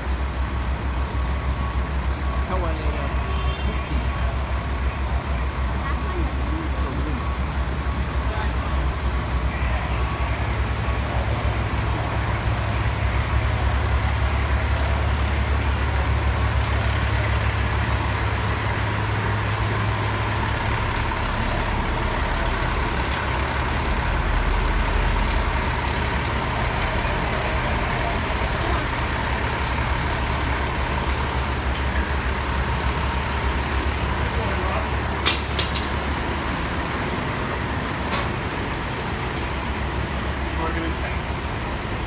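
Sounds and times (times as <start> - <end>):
diesel engines idling: 0.0 - 42.0.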